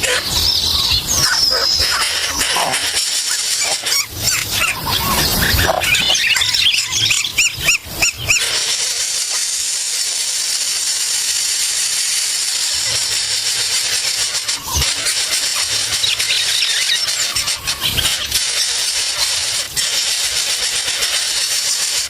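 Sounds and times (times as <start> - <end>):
small birds chirping: 0.0 - 22.0
steady high hiss: 0.0 - 22.0.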